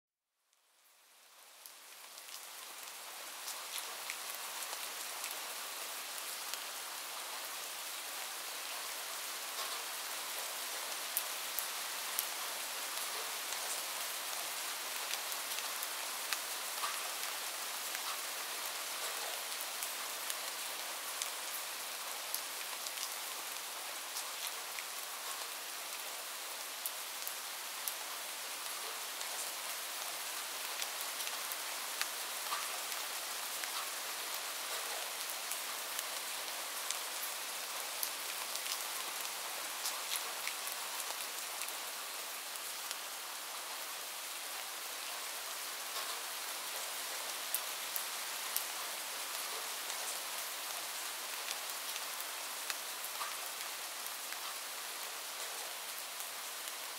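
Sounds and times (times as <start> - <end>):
light rain hiss: 0.3 - 56.9.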